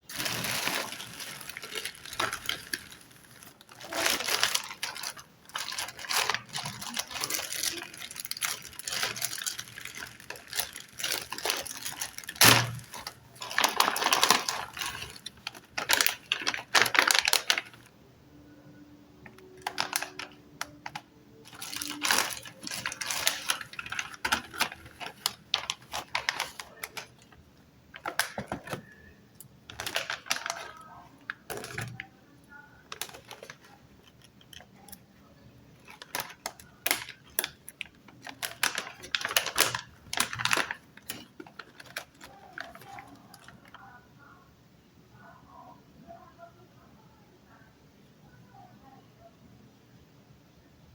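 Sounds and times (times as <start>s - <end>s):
packaging clicks and crinkling rustles: 0.0s - 17.9s, 19.2s - 43.9s.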